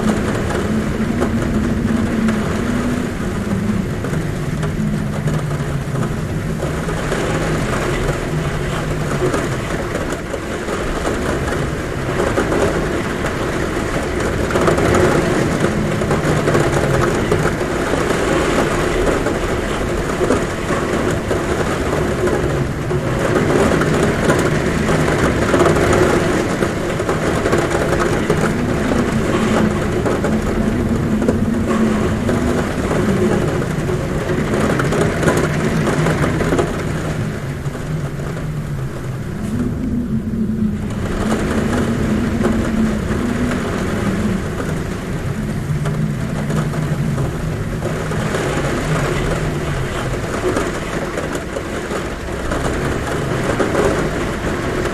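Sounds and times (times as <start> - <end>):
heavy rain on a roof: 0.0 - 54.9
wind humming at a window: 0.0 - 54.9.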